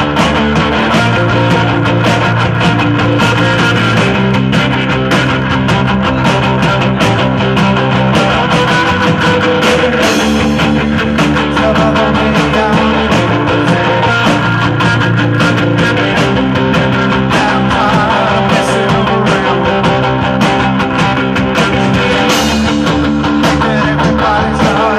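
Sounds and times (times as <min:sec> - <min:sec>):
distorted electric guitars: 0:00.0 - 0:24.9
driving drum kit: 0:00.0 - 0:24.9.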